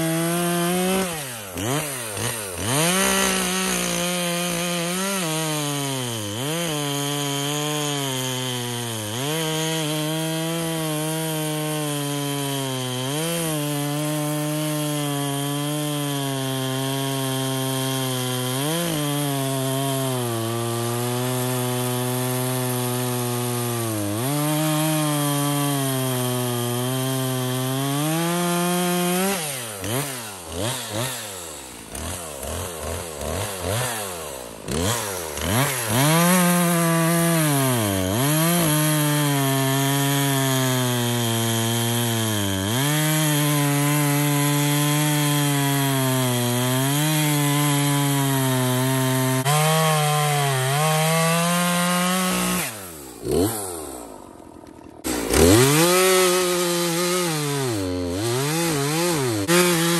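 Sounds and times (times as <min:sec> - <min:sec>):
chainsaw cutting a log: 0:00.0 - 0:59.9.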